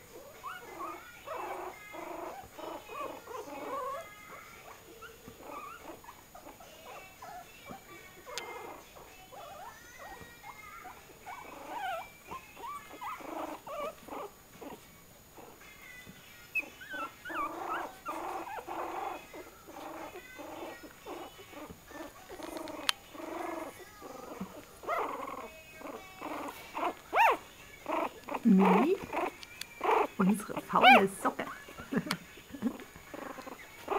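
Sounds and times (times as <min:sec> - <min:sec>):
puppies cooing and whimpering: 0:00.0 - 0:33.9.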